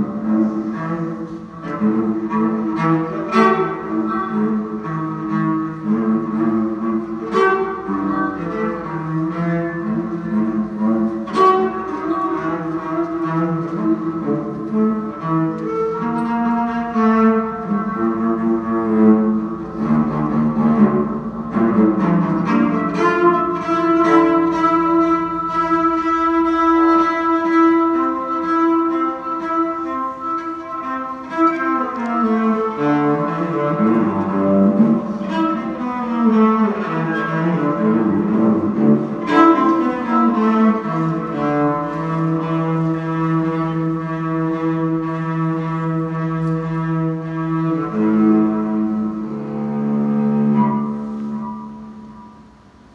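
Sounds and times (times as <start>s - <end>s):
cello bowed long notes: 0.0s - 52.9s.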